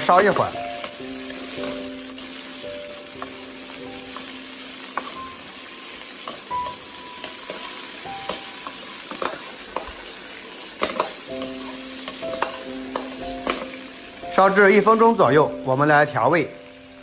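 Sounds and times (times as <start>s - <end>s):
green beans sizzling in hot oil: 0.0s - 17.0s.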